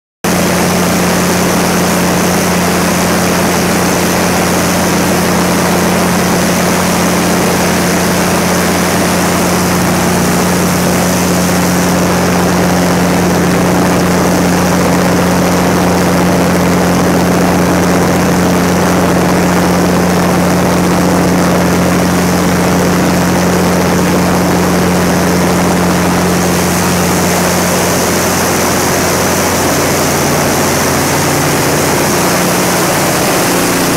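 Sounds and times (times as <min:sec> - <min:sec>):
diesel generator humming: 0:00.3 - 0:33.9.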